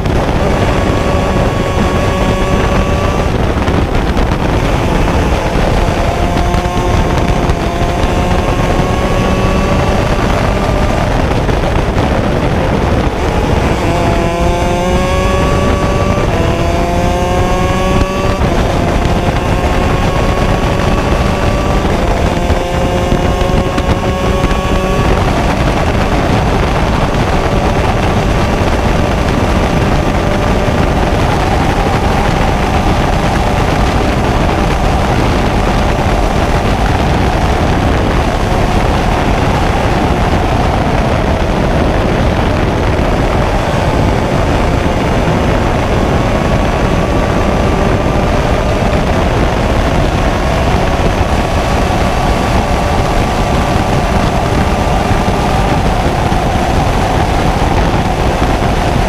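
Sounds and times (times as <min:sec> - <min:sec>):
rush of wind: 0:00.0 - 0:59.0
two-stroke kart engine running: 0:00.0 - 0:59.0.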